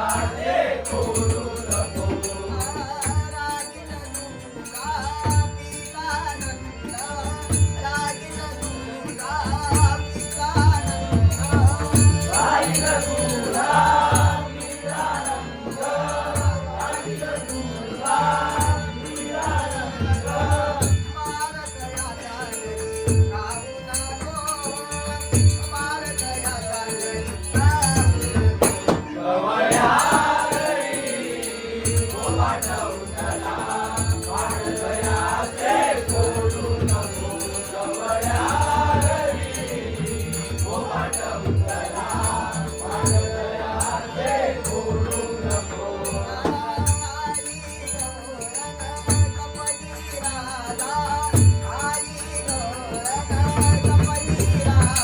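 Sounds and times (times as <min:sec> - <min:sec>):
devotional group singing: 0:00.0 - 0:55.0.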